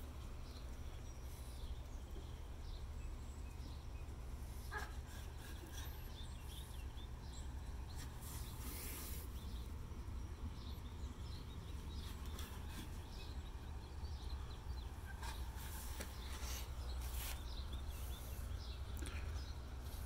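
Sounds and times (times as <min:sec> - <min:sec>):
faint bird chirps: 0:00.1 - 0:20.0.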